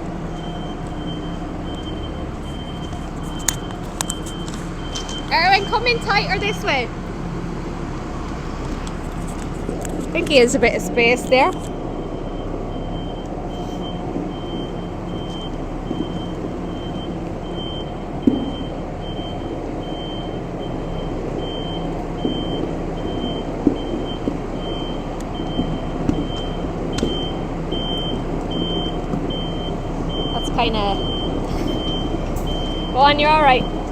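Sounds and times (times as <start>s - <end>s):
reversing alarm beeping: 0.0s - 7.0s, 11.0s - 33.9s
tractor diesel engine running: 0.0s - 33.9s.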